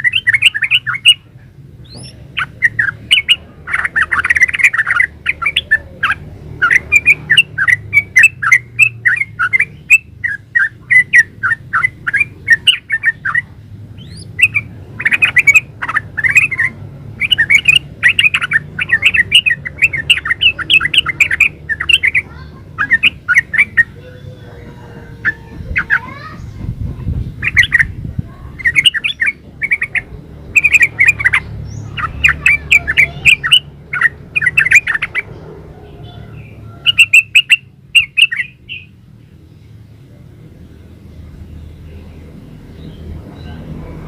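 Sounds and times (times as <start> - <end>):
bird chirping song: 0.0 - 44.0.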